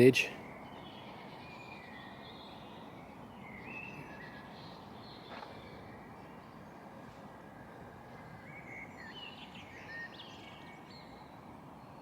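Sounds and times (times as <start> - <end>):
faint birds chirping: 0.0 - 12.0
outdoor background hiss: 0.0 - 12.0.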